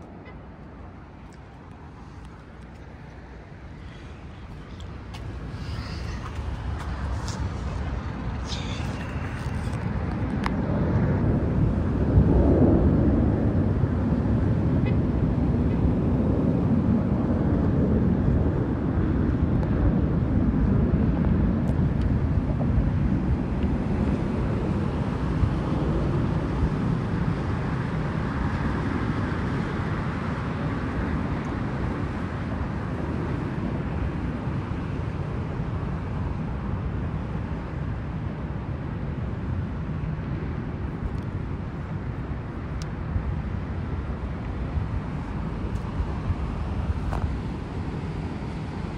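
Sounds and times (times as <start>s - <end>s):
distant aircraft engines rumbling: 0.0s - 48.9s.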